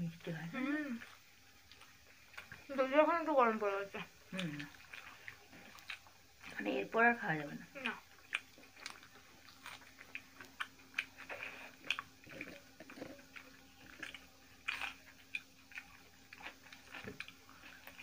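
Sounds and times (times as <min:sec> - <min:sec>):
faint steady hum: 0:00.0 - 0:18.0
wet chewing and lip smacks: 0:01.0 - 0:02.7, 0:04.0 - 0:06.6, 0:07.8 - 0:18.0.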